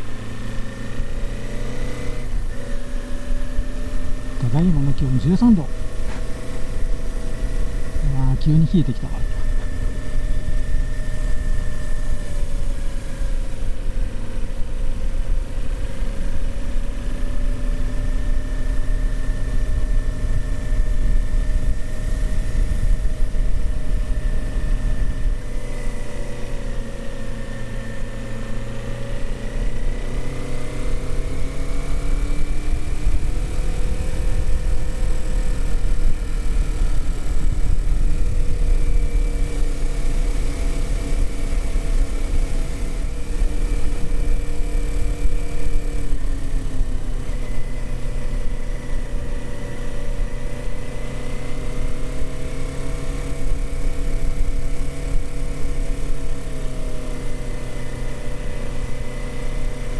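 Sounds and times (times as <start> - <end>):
motorcycle engine running: 0.0 - 59.9
road and wind noise: 0.0 - 59.9.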